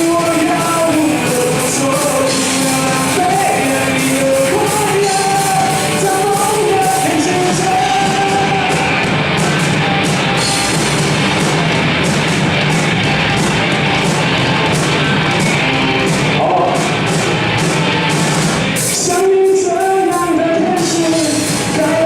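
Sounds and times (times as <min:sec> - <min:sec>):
distorted electric guitar: 0:00.0 - 0:22.0
drum beat: 0:00.0 - 0:22.0.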